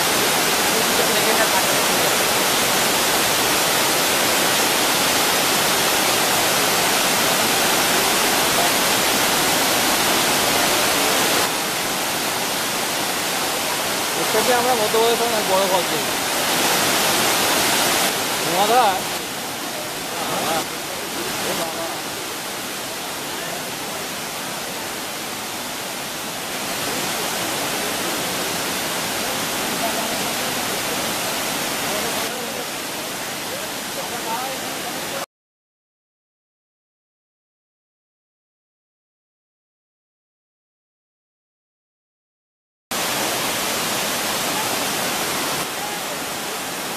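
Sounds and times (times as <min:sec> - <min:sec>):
waterfall rushing: 0:00.0 - 0:35.3, 0:42.9 - 0:46.9.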